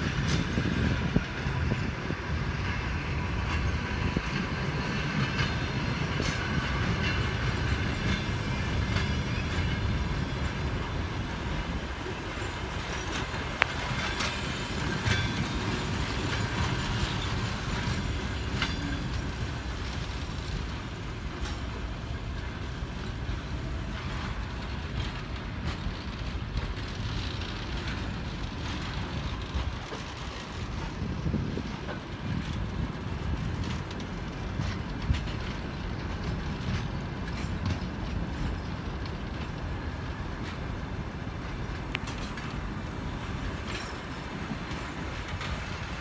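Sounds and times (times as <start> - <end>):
wheels clicking over rail joints: 0.0 - 46.0
wheels rumbling on rails: 0.0 - 46.0.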